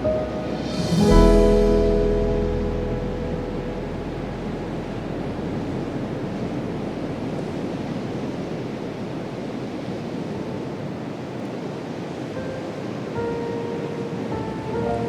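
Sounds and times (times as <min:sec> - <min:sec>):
ocean surf washing in: 0:00.0 - 0:15.0.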